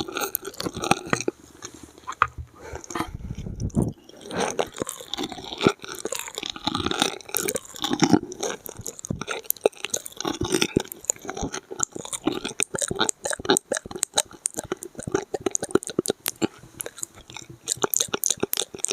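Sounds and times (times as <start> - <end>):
mouth clicks and smacks: 0.0 - 18.9
wet chewing mouth sounds: 0.0 - 18.9.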